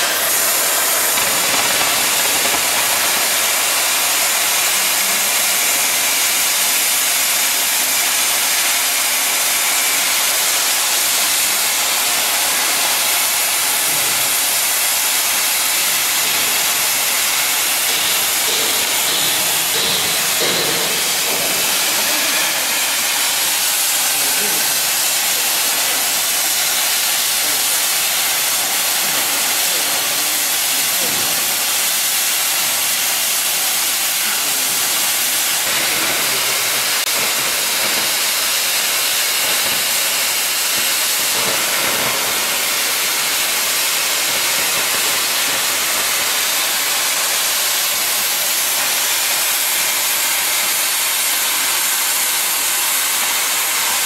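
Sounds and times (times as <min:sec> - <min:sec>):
cutting torch hissing: 0:00.0 - 0:54.0.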